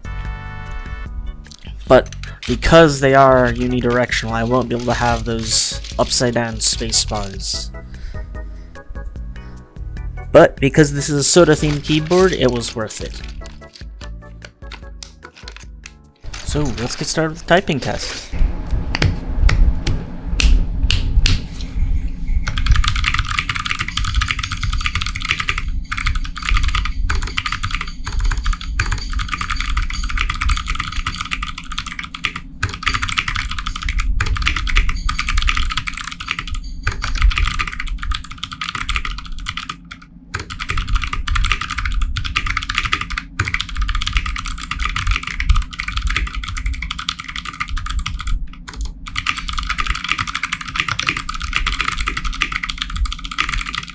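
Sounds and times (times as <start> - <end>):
fast clicky keyboard typing: 1.6 - 7.7, 10.7 - 18.0, 22.5 - 53.9.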